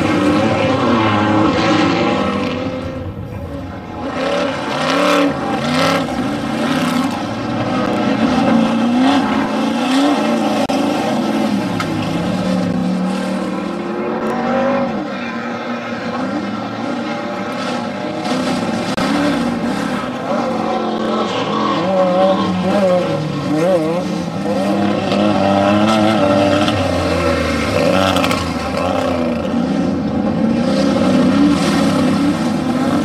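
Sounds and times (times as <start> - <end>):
truck engine revving hard: 0.0 - 33.0.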